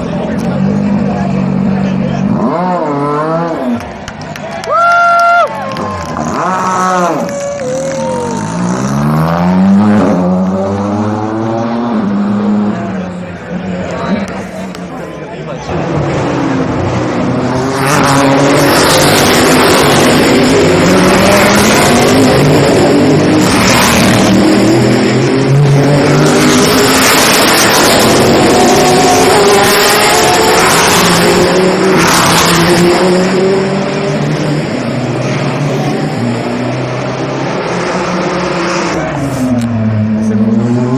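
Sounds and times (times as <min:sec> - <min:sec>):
racing cars passing at speed: 0:00.0 - 0:40.9.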